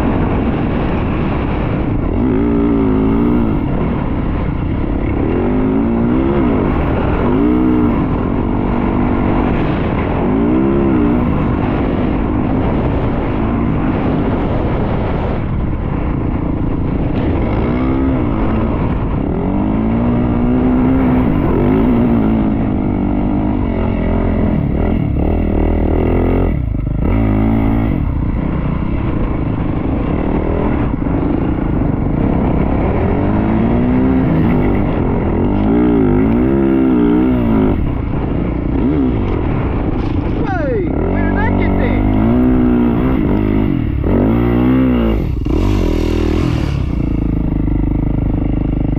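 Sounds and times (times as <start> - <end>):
dirt bike engine revving: 0.0 - 48.9
wind rushing over microphone: 0.0 - 48.9.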